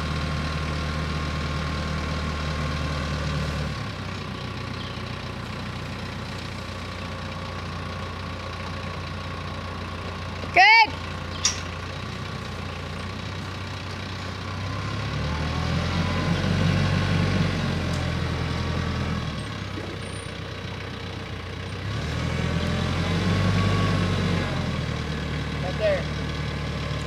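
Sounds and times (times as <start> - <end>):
tractor engine running auger: 0.0 - 27.0.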